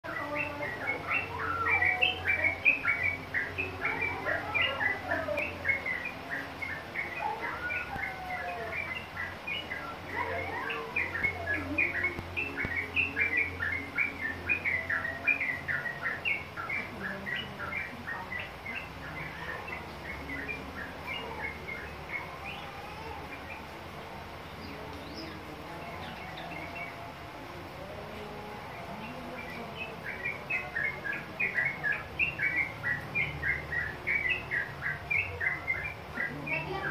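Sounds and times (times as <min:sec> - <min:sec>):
bird chattering chirps: 0:00.1 - 0:23.7, 0:29.0 - 0:36.9.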